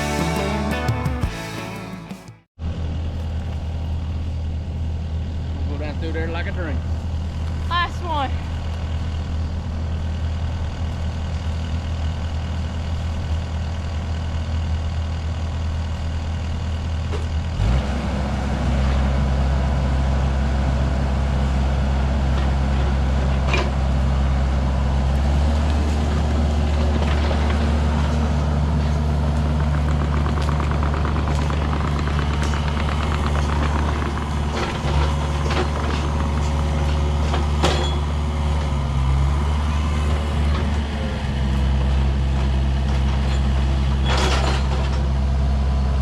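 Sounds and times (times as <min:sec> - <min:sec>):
large engine idling and revving: 0:00.0 - 0:46.0.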